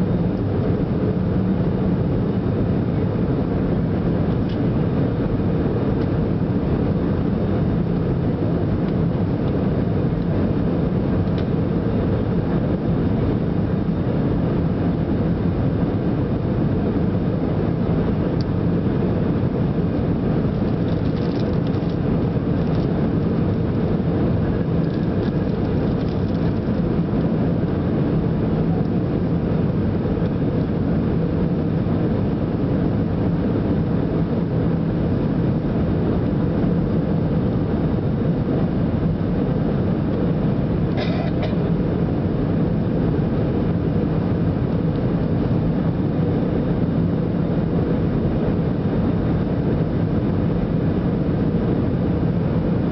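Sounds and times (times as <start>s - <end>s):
airliner cabin noise: 0.0s - 52.9s.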